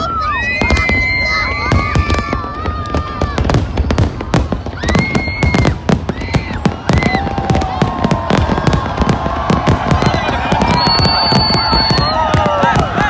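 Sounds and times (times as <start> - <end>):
firework whistling: 0.0 - 13.0
fireworks bangs and crackles: 0.0 - 13.0.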